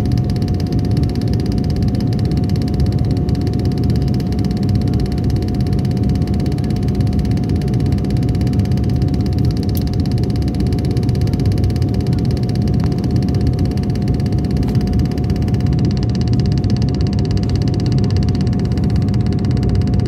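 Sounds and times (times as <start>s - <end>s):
constant pitched hum: 0.0s - 20.0s
aircraft cabin low rumble: 0.1s - 20.0s.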